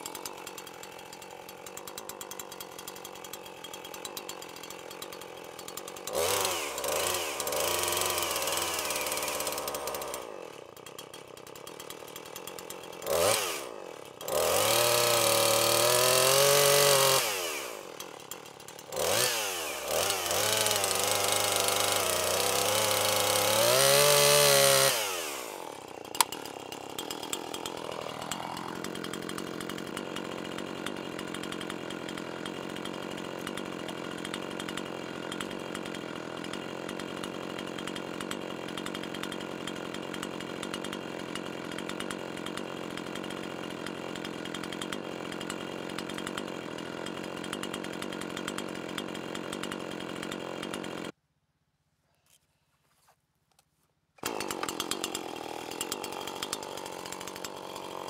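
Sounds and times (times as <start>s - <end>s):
chainsaw cutting log: 0.0s - 51.2s, 54.2s - 58.0s.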